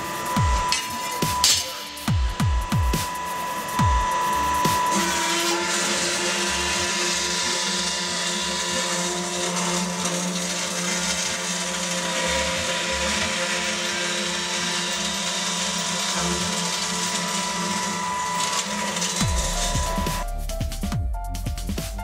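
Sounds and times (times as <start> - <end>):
circular saw running: 0.0 - 20.8.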